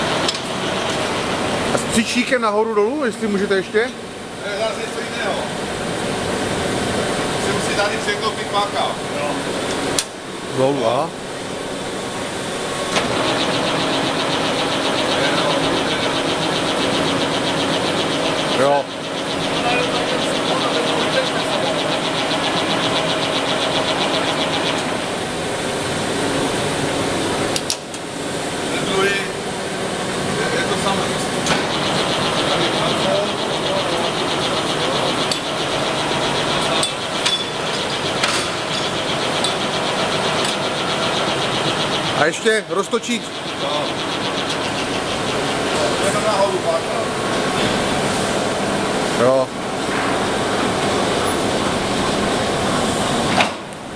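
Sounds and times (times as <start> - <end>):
lathe humming and whirring: 0.0 - 53.9.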